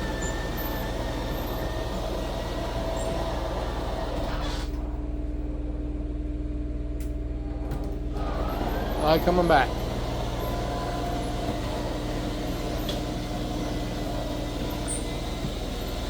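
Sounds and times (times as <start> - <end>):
slide-out mechanism whirring: 0.0 - 5.1, 7.7 - 16.0
steady low hum: 0.0 - 16.0.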